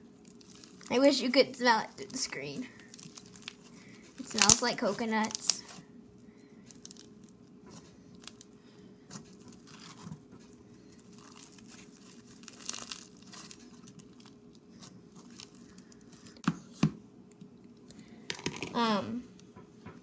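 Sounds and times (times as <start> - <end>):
slime crackling and squishing: 0.0 - 16.4.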